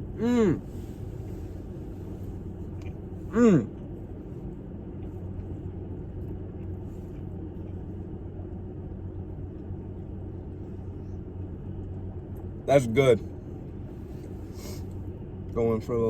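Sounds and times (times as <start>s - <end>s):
low hum with buzzing tone: 0.0s - 16.0s.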